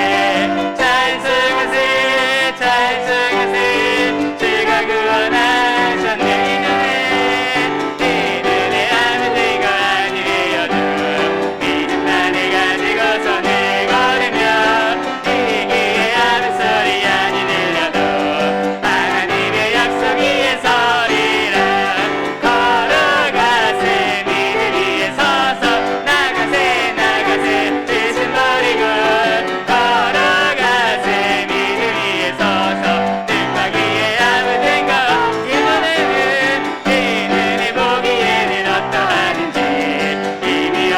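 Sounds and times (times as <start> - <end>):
group singing a hymn: 0.0 - 40.9
piano accompaniment: 0.0 - 40.9.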